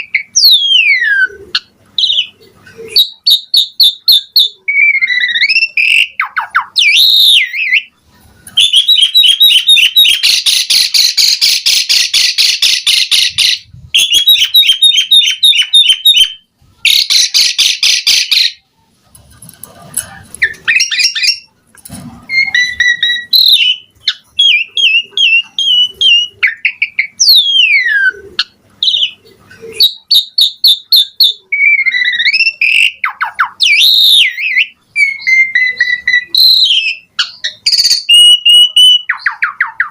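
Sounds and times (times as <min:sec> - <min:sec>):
starling singing: 0:00.0 - 0:18.7, 0:19.7 - 0:39.9.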